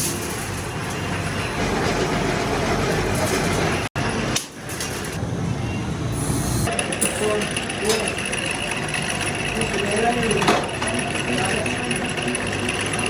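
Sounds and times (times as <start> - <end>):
spring making machine running: 0.0 - 5.2, 6.1 - 13.0.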